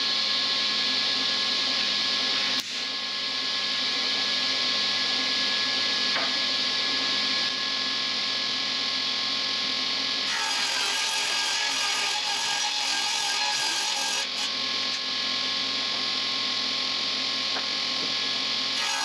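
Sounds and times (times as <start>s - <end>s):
woodworking machine whining: 0.0s - 19.0s.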